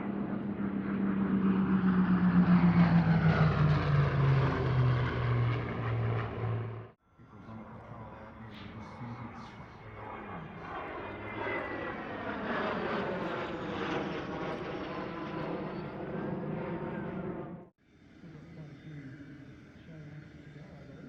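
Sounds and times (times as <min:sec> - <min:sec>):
aircraft engine flying past: 0:00.0 - 0:21.0.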